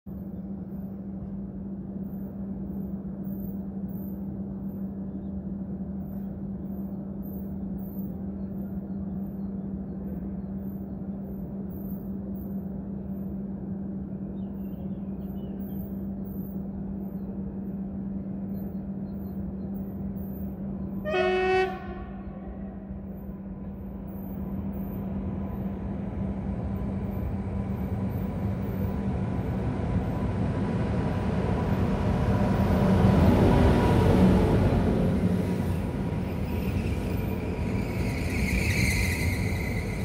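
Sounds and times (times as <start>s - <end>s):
steady low hum and rumble: 0.1s - 21.0s, 21.8s - 33.1s.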